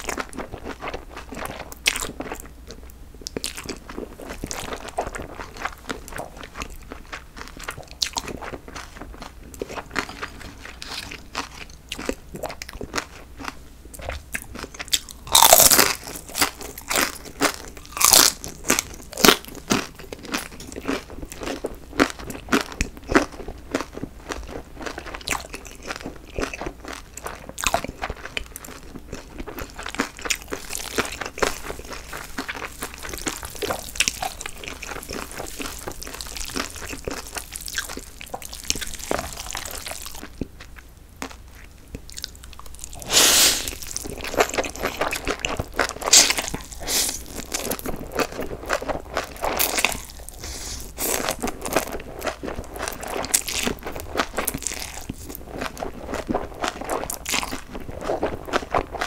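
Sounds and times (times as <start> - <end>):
chewing crunchy noodles: 0.0 - 59.0.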